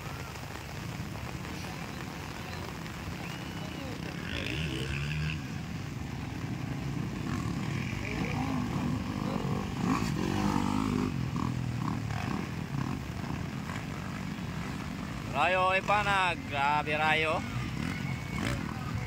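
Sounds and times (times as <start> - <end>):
dirt bikes revving past: 2.2 - 19.0.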